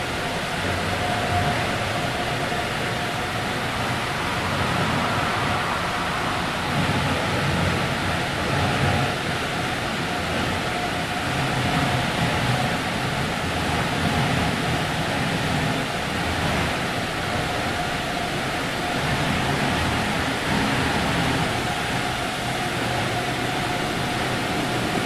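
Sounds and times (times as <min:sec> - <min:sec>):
spraying water rushing: 0:00.0 - 0:25.0.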